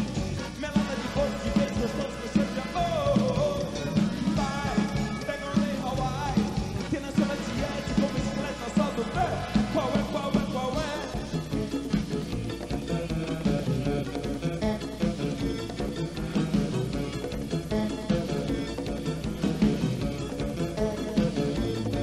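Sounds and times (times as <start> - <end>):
band playing live: 0.0 - 22.0
bending lead melody: 0.0 - 22.0
driving beat: 0.0 - 22.0.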